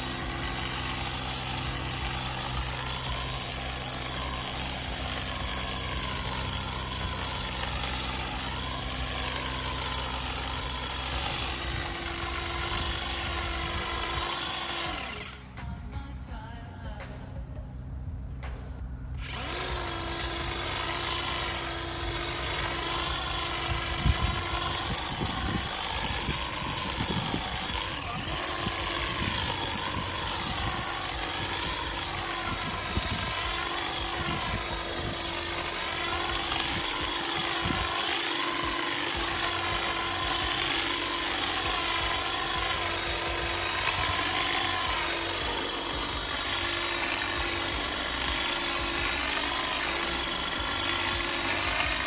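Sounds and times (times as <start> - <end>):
small petrol engine running: 0.0 - 15.6, 19.1 - 52.0.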